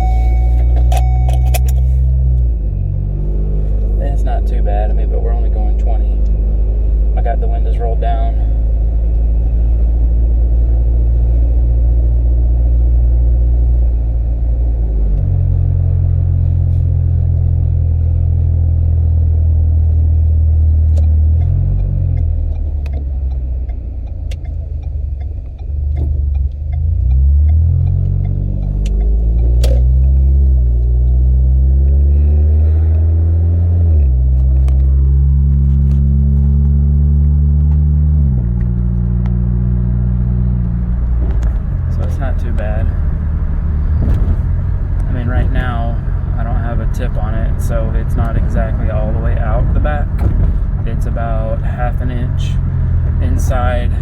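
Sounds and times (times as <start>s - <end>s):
car exhaust drone: 0.0s - 54.0s.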